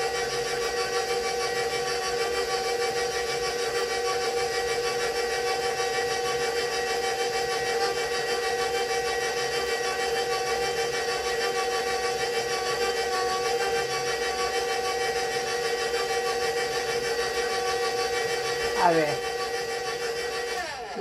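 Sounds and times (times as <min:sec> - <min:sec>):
stand mixer motor whine: 0:00.0 - 0:21.0.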